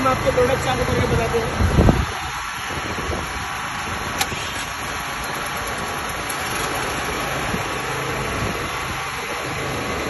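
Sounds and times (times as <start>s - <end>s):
generator engine running: 0.0s - 10.0s.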